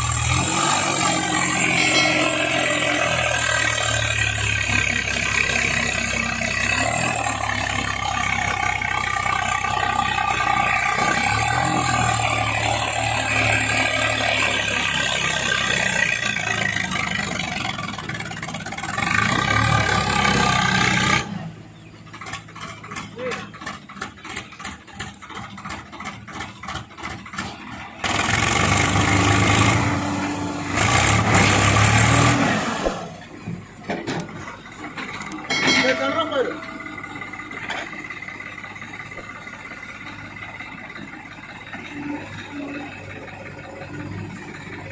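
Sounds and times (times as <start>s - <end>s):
diesel engine revving: 0.0s - 44.9s.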